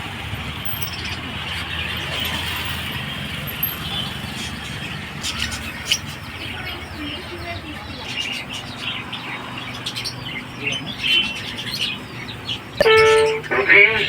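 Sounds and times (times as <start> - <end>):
market noise: 0.0 - 14.0
small birds chirping: 0.0 - 14.0
traffic hum: 0.0 - 14.0.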